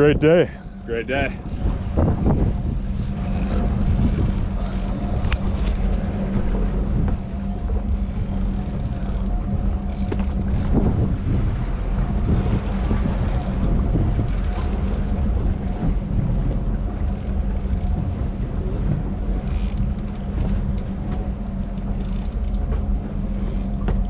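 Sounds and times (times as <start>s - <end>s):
boat engine rumbling: 0.0s - 24.0s
faint steady whine: 0.0s - 24.0s.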